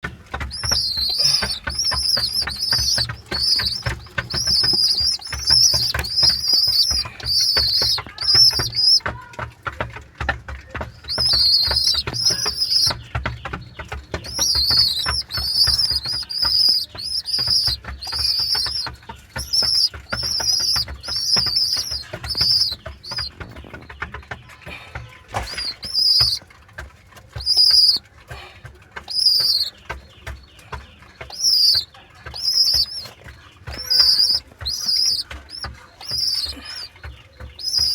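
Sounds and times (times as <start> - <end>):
pigeon squabs squeaking: 0.0 - 37.9
soft clicking and rustling: 0.0 - 37.9.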